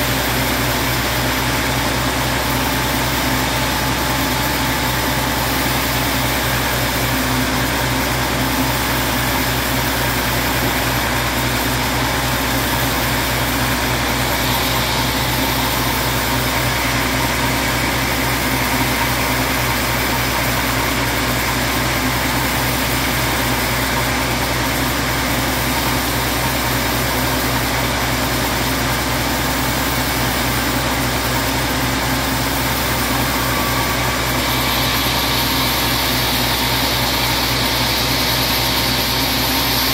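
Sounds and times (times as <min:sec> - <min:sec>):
band saw cutting wood: 0:00.0 - 0:27.5, 0:29.9 - 0:39.9.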